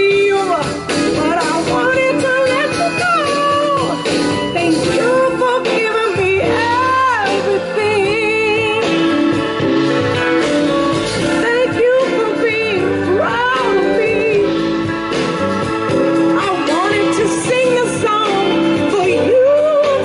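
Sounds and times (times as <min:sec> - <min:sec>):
woman singing soul song: 0:00.0 - 0:15.0, 0:16.2 - 0:20.0
band with drums and electric guitar: 0:00.0 - 0:20.0.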